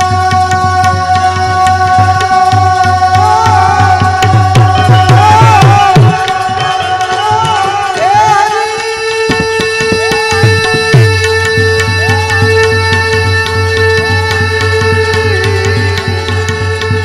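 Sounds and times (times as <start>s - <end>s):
harmonium holding long notes: 0.0s - 17.0s
tabla rhythm: 0.0s - 17.0s.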